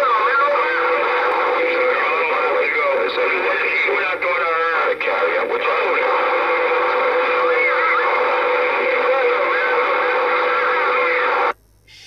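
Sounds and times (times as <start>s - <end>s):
distorted radio transmission: 0.0s - 12.0s
radio hiss: 0.0s - 12.0s.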